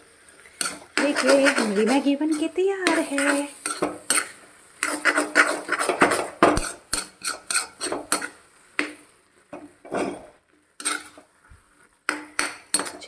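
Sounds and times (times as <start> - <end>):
spatula scraping a pan: 0.4 - 13.0.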